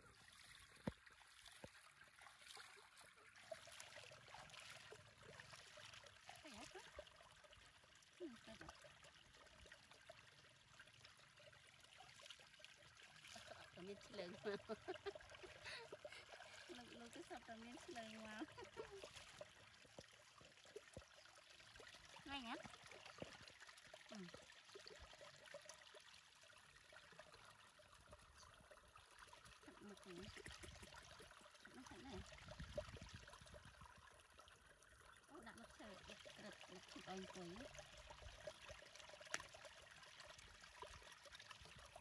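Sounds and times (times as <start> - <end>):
faint trickling water: 0.0 - 42.0.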